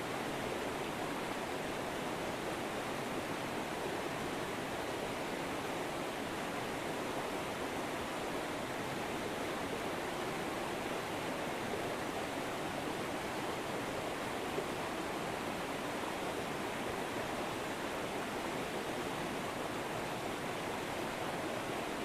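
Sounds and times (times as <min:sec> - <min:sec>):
river flowing over rocks: 0:00.0 - 0:22.0.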